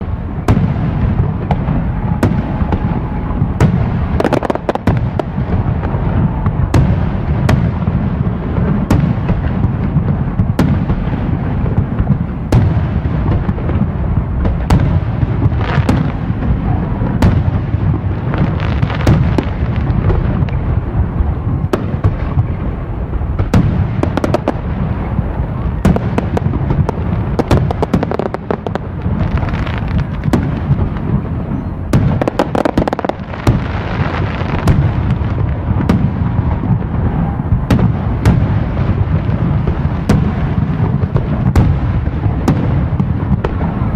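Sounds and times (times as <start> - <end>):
fireworks booming: 0.0 - 43.9
fireworks sharp cracks: 0.0 - 43.9.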